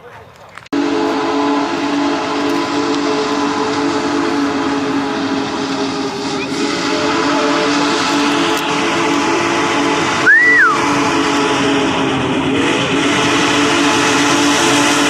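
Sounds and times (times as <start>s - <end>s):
steam hissing: 0.8s - 15.0s
steam locomotive chime whistle: 0.8s - 15.0s.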